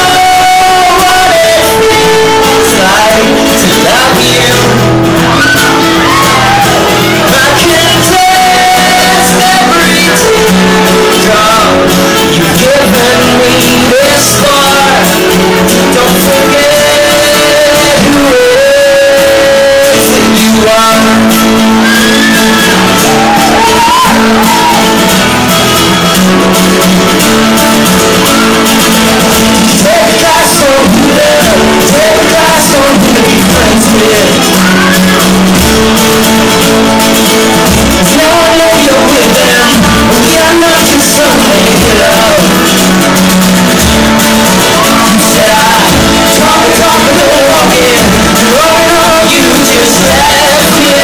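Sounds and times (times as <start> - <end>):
person singing: 0.0 - 27.2, 28.0 - 36.6, 37.2 - 51.0
acoustic guitars strummed: 0.0 - 51.0
drums: 0.0 - 51.0
live band playing: 0.0 - 51.0.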